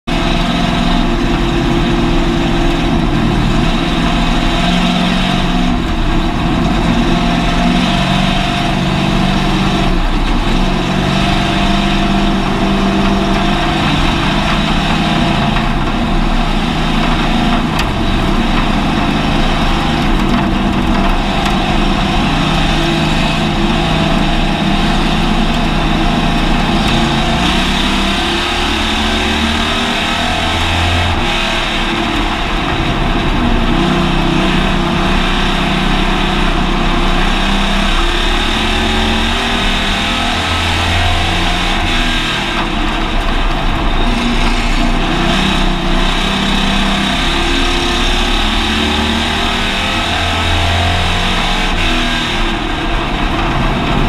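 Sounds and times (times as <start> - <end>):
race car engine running hard: 0.0 - 54.0
road and wind noise: 0.0 - 54.0.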